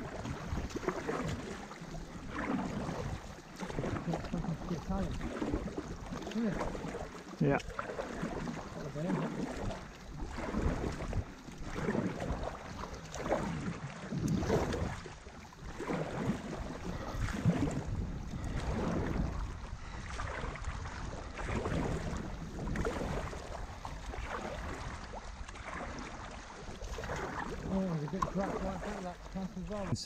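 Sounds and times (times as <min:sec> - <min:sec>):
paddle strokes splashing: 0:00.0 - 0:30.0
water lapping at board: 0:00.0 - 0:30.0.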